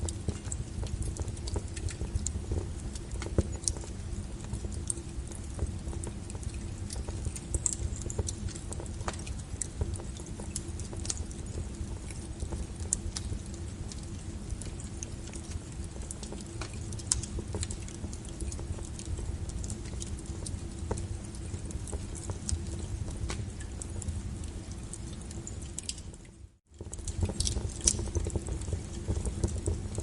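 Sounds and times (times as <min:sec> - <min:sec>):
burning logs crackling and popping: 0:00.0 - 0:30.0.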